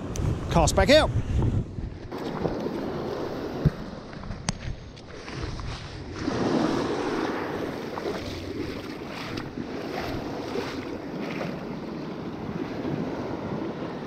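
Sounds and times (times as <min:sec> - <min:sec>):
wind on microphone: 0:00.0 - 0:14.0
small waves washing onto beach: 0:02.1 - 0:14.0.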